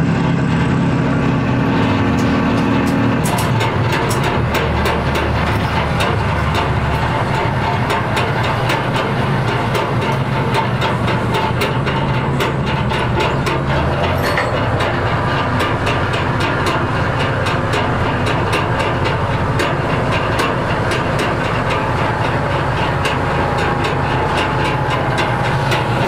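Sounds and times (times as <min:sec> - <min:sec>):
heavy machinery humming: 0:00.0 - 0:26.0
regular mechanical ticking: 0:01.6 - 0:26.0.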